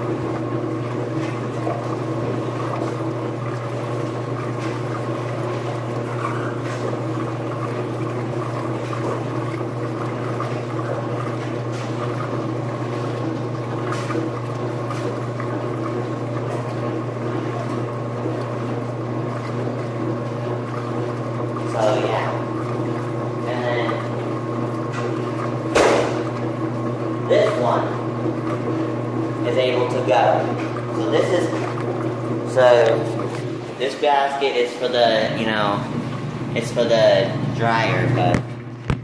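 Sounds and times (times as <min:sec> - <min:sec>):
laundry machines humming: 0:00.0 - 0:39.0.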